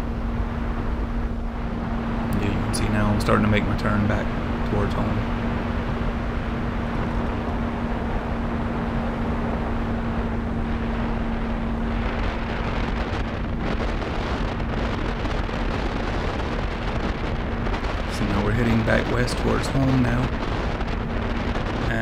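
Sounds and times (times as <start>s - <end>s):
airflow rushing over microphone: 0.0s - 22.0s
electric motor hum: 0.0s - 22.0s.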